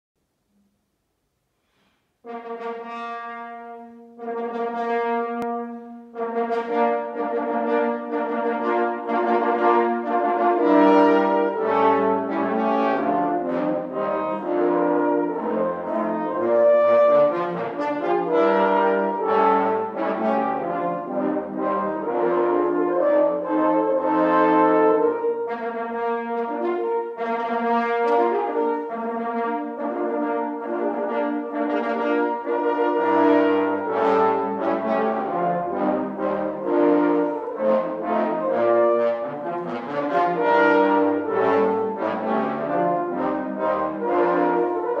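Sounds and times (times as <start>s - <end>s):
french horns playing together: 1.7s - 45.0s.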